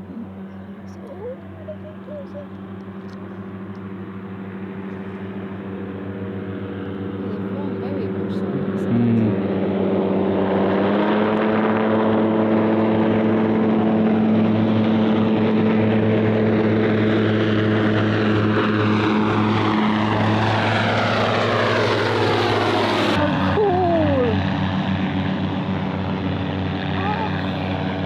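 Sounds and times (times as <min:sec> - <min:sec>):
light aircraft propeller engines: 0:00.0 - 0:28.0.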